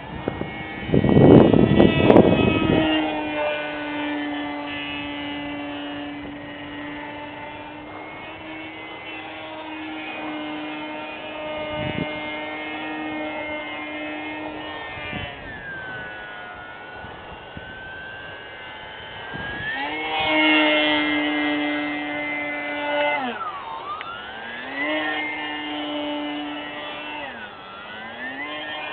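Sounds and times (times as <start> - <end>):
model plane motor whine: 0.0 - 28.9.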